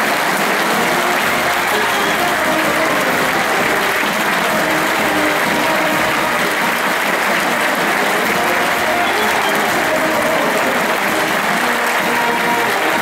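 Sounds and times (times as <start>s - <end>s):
large crowd applauding: 0.0s - 13.0s.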